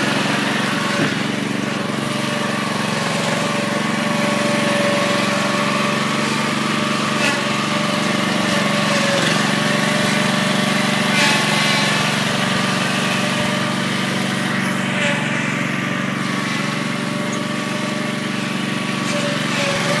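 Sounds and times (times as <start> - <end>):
small gasoline engine running: 0.0 - 20.0.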